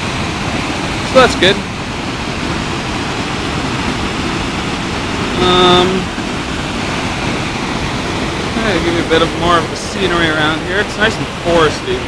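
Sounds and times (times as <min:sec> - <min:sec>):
waterfall pouring over rock: 0:00.0 - 0:12.0.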